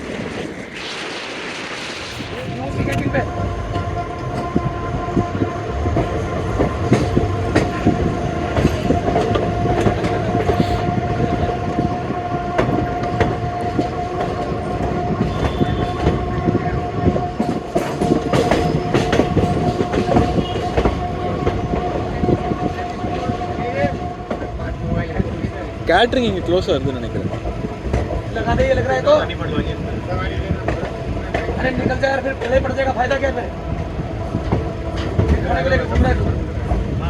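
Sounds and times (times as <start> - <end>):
train rumble: 0.0 - 37.0
train wheels clattering over joints: 2.5 - 37.0.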